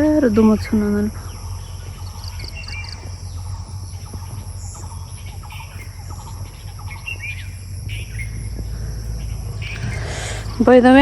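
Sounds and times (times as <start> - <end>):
bird chirps: 0.0 - 11.0
insects droning: 0.0 - 11.0
low rumble: 0.0 - 11.0.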